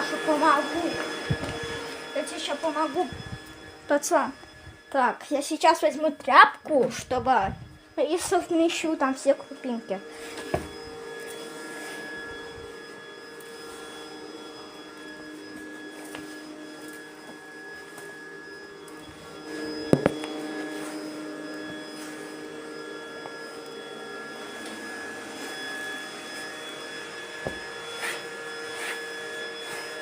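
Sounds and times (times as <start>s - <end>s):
robot vacuum whirring: 0.0s - 30.0s.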